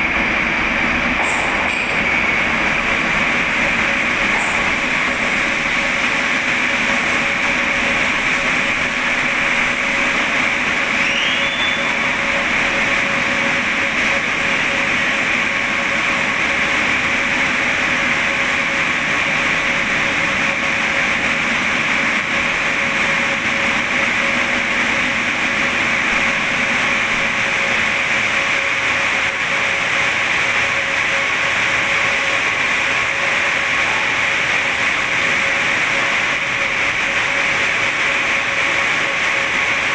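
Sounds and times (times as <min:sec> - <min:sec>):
train equipment humming with whine: 0:00.0 - 0:39.9.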